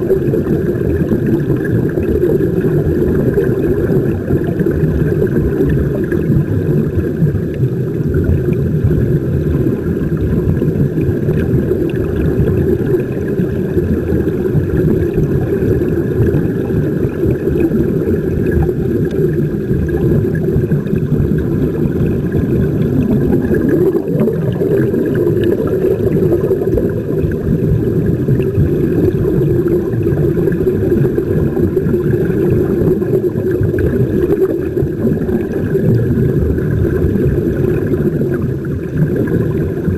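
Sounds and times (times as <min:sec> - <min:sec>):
faint gurgling: 0:00.0 - 0:39.9
muffled underwater rumble: 0:00.0 - 0:39.9.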